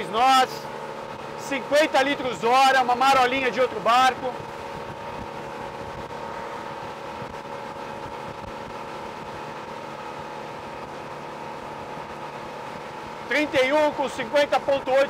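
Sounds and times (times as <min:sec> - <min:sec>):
speedboat engine hum: 0:00.0 - 0:15.0.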